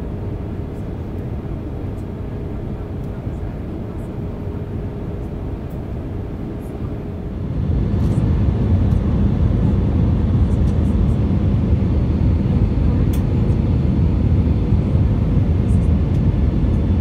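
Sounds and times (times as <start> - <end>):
engine and airflow rumble: 0.0 - 17.0.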